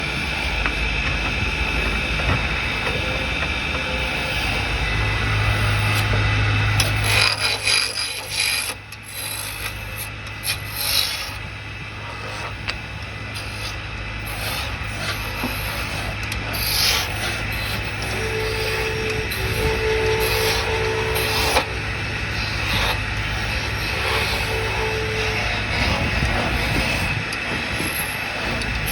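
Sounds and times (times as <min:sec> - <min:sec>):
tool scraping wood: 0:00.0 - 0:11.4, 0:12.0 - 0:28.9
steady low hum: 0:00.0 - 0:28.9.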